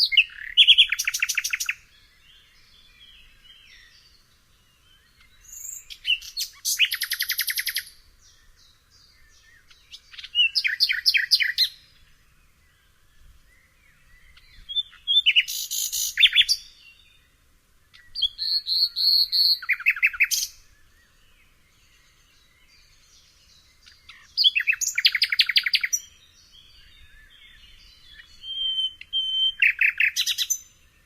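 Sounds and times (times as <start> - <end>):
nightingale singing: 0.0 - 31.0.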